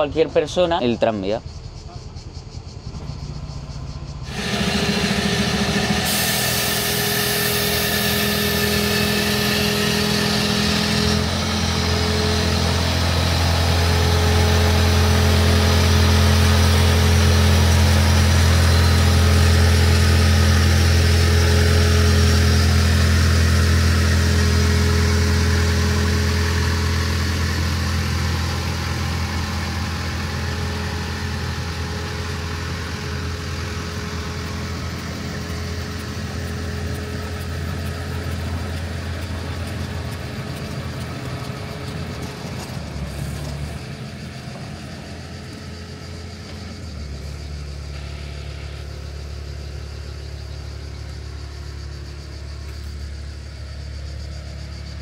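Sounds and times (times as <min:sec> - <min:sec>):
engine humming: 0:01.4 - 0:55.0.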